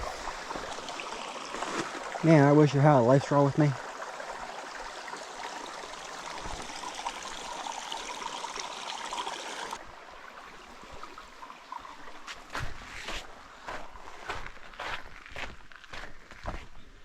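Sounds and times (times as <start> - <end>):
stream of running water: 0.0 - 15.1.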